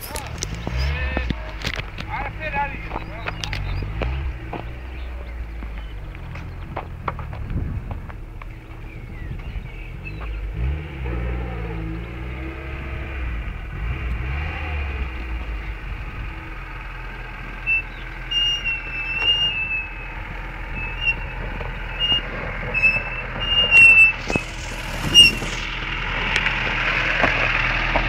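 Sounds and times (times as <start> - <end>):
brakes squealing: 0.0 - 28.0
tyres rumbling: 0.0 - 28.0
vehicle engine running low: 0.0 - 28.0.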